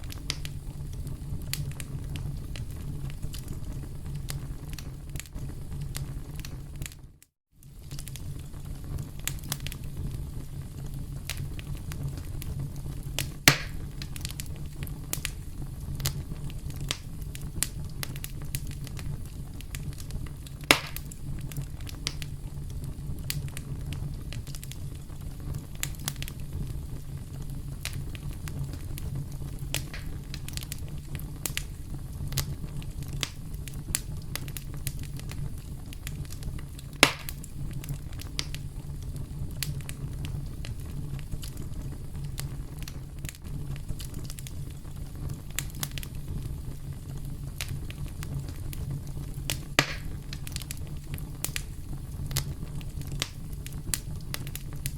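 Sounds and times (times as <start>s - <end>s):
campfire crackling: 0.0s - 54.9s
sharp fire pops: 0.0s - 54.9s.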